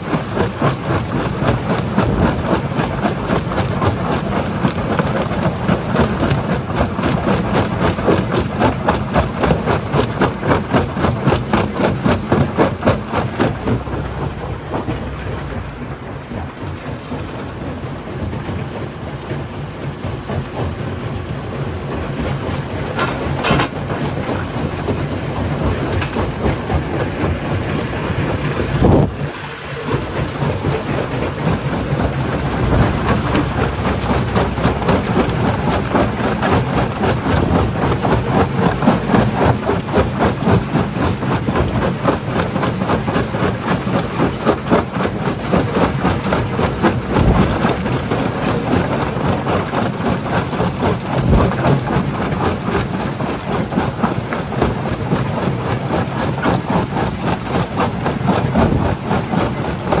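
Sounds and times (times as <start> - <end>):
crusher engine droning: 0.0 - 60.0.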